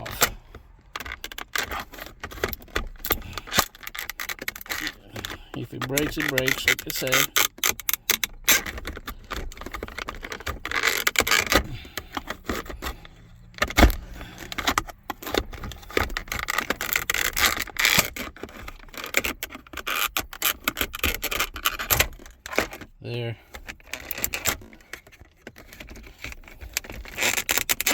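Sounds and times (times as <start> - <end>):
plastic clicks and cracks: 0.0 - 22.9, 23.5 - 27.9
plastic scraping and rubbing: 0.0 - 27.9.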